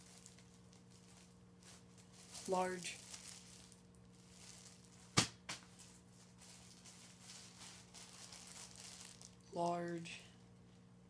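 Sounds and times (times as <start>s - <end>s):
rustling of plastic bags: 0.0s - 10.2s.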